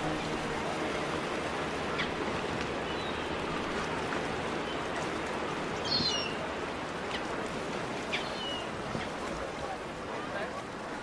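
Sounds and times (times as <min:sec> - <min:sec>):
rain-like hiss: 0:00.0 - 0:11.0.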